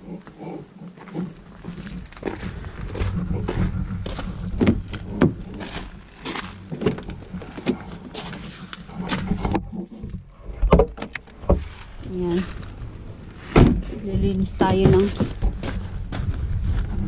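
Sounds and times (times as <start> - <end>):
low steady rumble: 0.0 - 17.0
footsteps on gravel: 0.9 - 9.4, 11.6 - 17.0.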